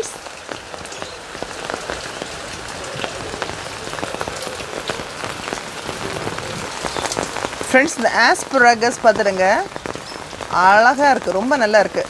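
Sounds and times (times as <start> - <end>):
raindrops hitting close by: 0.0 - 12.0
steady rain falling: 0.0 - 12.0.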